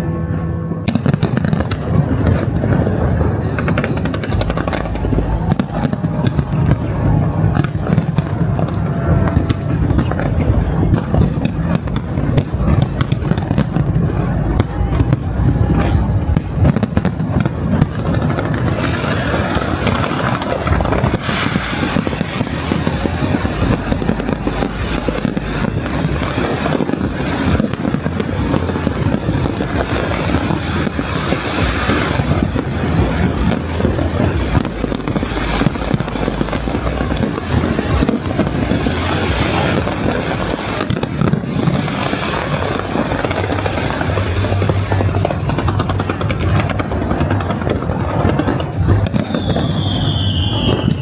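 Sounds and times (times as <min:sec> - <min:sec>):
fireworks bangs and crackles: 0:00.0 - 0:51.0
low rumble: 0:00.0 - 0:51.0.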